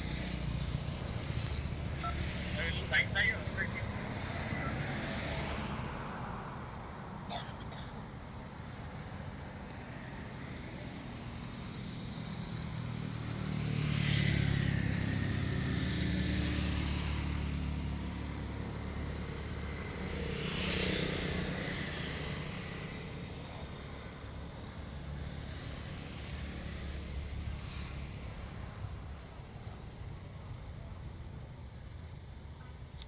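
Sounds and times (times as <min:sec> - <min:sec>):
vehicles passing by: 0:00.0 - 0:33.0.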